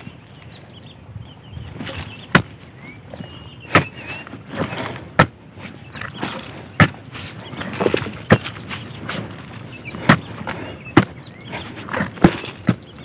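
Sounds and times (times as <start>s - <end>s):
soil scraping: 1.6s - 13.0s
digging tool striking earth: 1.8s - 13.0s.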